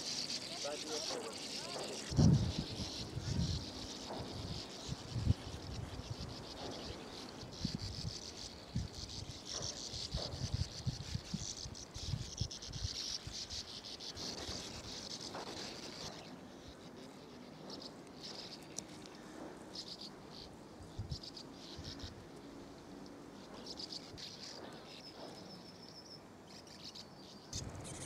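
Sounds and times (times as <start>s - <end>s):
birds chattering: 0.0s - 28.0s.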